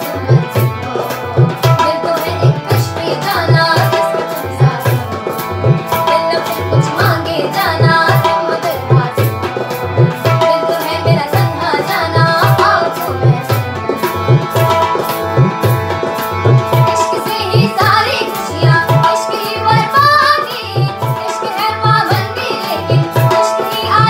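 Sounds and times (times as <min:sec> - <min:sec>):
woman singing: 0:00.0 - 0:01.0, 0:01.6 - 0:13.6, 0:16.8 - 0:24.0
harmonium chords: 0:00.0 - 0:24.0.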